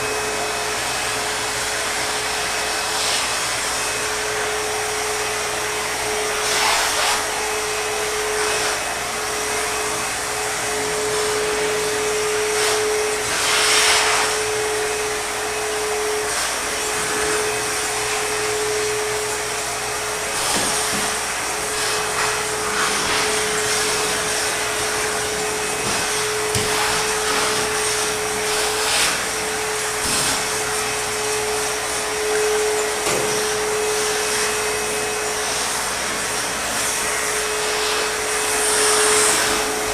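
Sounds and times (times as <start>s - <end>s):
vacuum motor whine: 0.0s - 39.9s.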